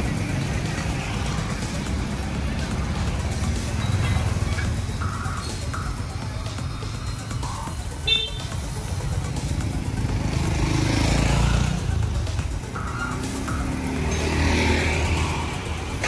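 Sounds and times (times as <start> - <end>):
low traffic rumble: 0.0 - 16.0
vehicle passing: 0.0 - 16.0.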